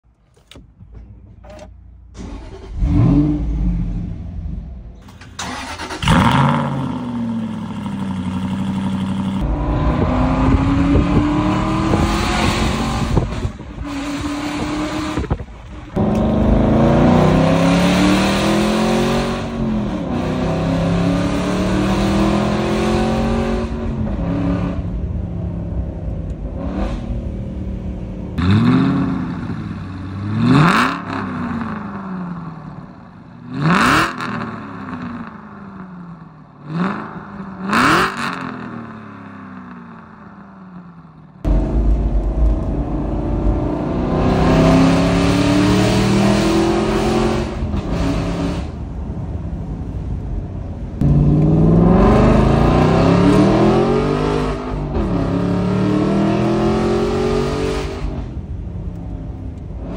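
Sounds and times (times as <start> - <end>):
car engine revving: 0.5 - 40.2, 41.4 - 59.9.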